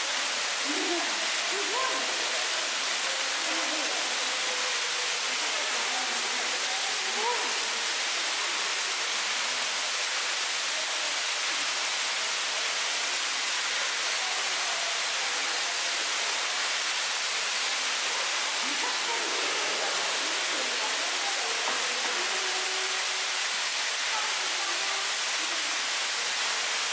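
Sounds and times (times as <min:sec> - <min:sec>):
people talking faintly: 0:00.0 - 0:26.9
steady hiss: 0:00.0 - 0:26.9.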